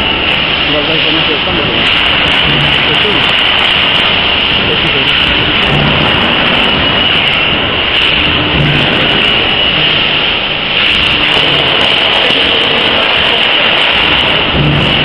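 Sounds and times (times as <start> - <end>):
machine running with high hiss: 0.0 - 15.0.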